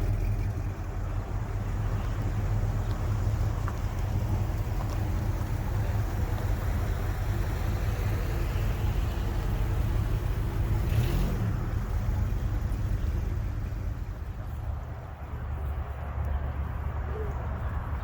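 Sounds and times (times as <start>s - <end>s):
car engine rolling by: 0.0s - 18.0s.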